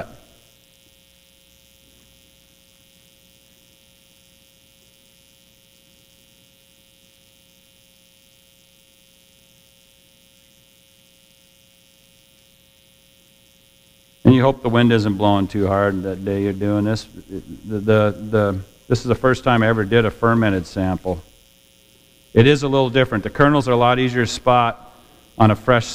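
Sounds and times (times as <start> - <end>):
background hiss: 0.0 - 25.9
faint electrical hum: 0.0 - 25.9.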